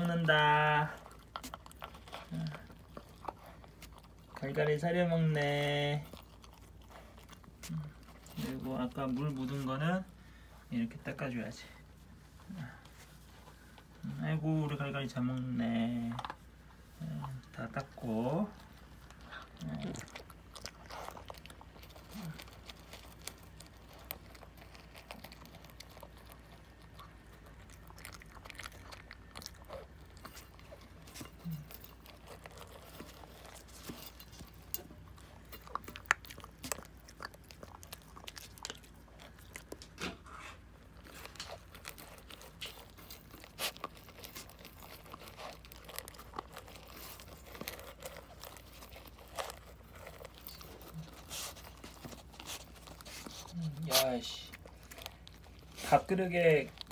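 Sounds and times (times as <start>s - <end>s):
pet crunching dry kibble: 0.0s - 56.9s.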